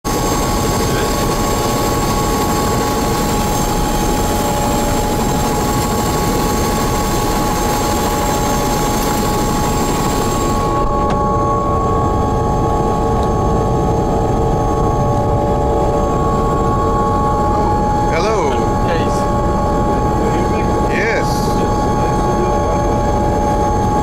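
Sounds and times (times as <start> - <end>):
helicopter engine idling: 0.1 - 24.0.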